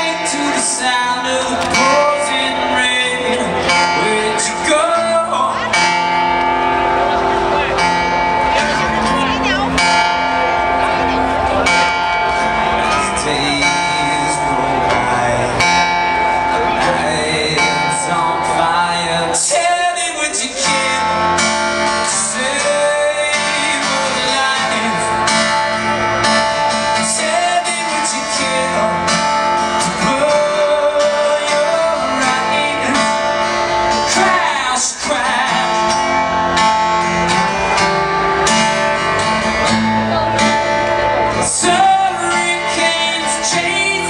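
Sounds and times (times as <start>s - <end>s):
person singing: 0.0s - 44.0s
strummed acoustic guitar: 0.0s - 44.0s.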